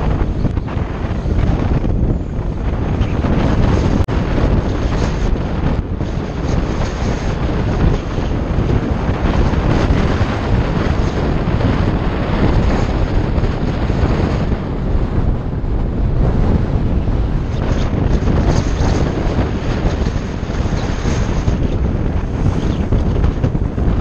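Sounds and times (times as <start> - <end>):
deep rumble: 0.0 - 24.0
wind buffeting microphone: 0.0 - 24.0.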